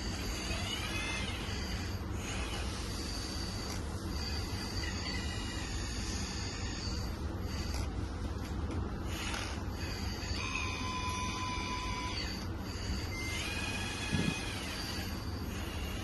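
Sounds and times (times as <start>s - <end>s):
hydraulic drive whine: 0.0s - 8.0s, 8.7s - 16.0s
steady low hum: 0.0s - 16.0s.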